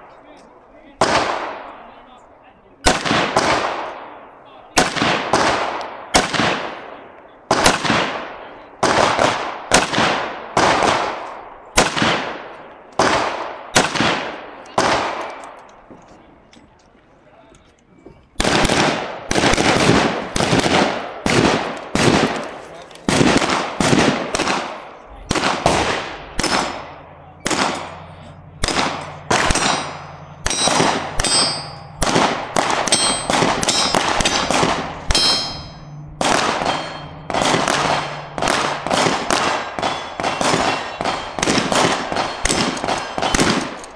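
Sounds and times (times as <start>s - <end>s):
gunshots echoing: 1.0s - 2.0s, 2.8s - 15.6s, 18.4s - 43.9s.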